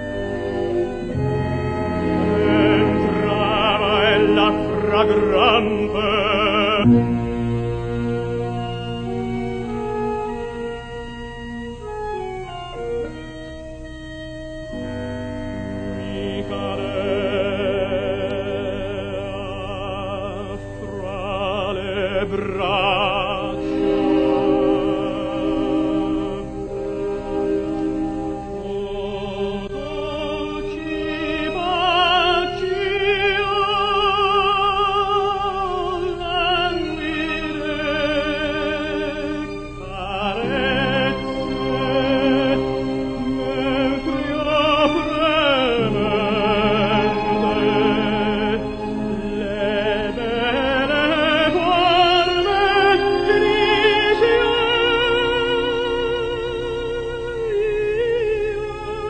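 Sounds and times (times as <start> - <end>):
instrumental accompaniment: 0.0 - 59.0
operatic tenor singing: 0.0 - 59.0.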